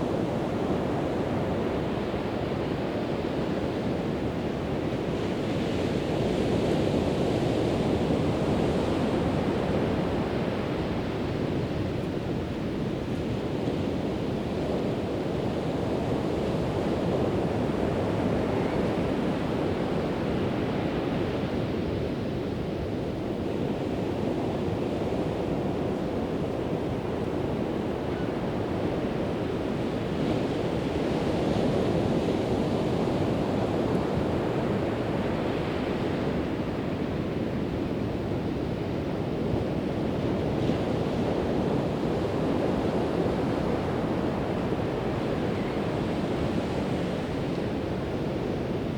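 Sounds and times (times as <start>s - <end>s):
wind: 0.0s - 48.9s.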